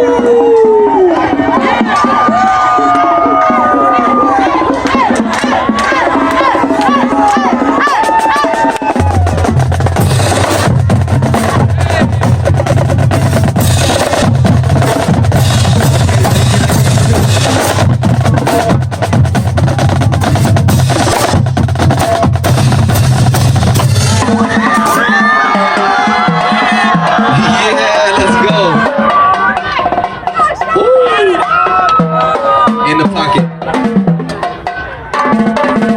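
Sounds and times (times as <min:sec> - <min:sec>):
crowd voices and shouts: 0:00.0 - 0:19.3, 0:22.0 - 0:35.9
pounding bass drums: 0:01.2 - 0:34.7.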